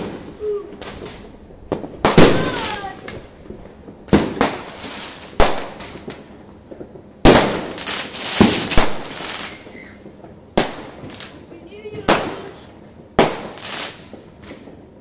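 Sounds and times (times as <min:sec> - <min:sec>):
fireworks banging: 0:00.0 - 0:15.0
fireworks crackling: 0:00.0 - 0:15.0.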